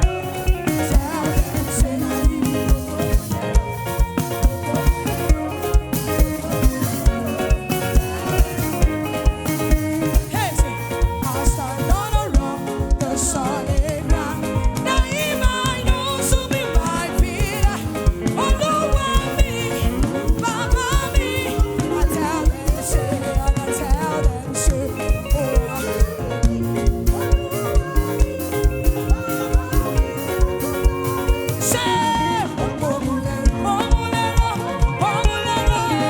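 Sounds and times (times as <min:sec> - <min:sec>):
driving drum beat: 0:00.0 - 0:36.0
live gospel band music: 0:00.0 - 0:36.0
wavering melody line: 0:00.0 - 0:36.0.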